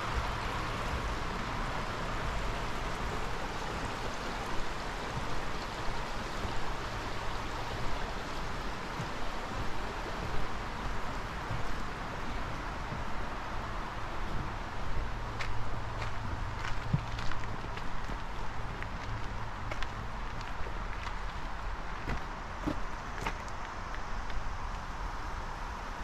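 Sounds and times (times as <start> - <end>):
brook running water: 0.0 - 26.0.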